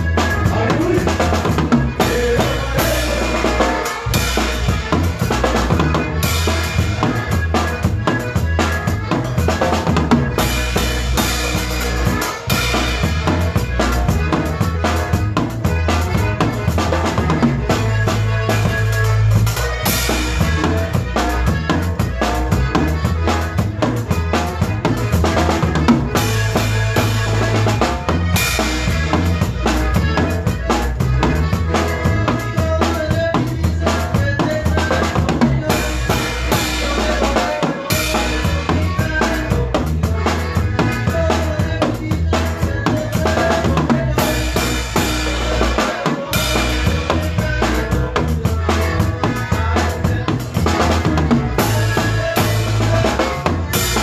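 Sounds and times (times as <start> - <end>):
bass line: 0.0 - 54.0
drum kit beat: 0.0 - 54.0
live band playing dance music: 0.0 - 54.0.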